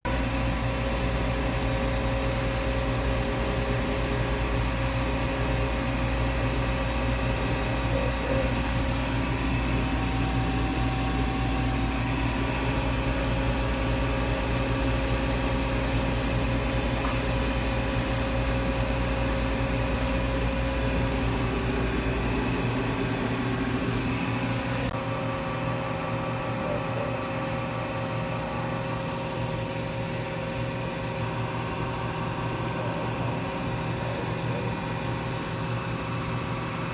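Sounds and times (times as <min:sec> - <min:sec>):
boring mill machine hum: 0:00.0 - 0:36.9.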